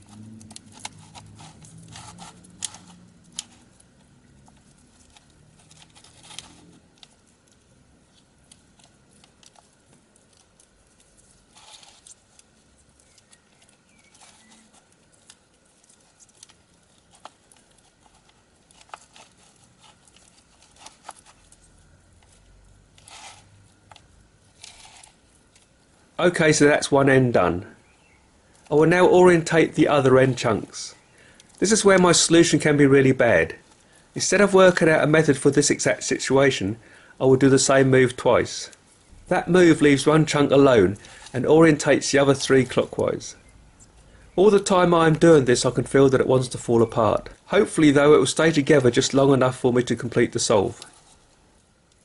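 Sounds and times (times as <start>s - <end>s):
scraping and rustling of puzzle cube: 0.0s - 52.0s.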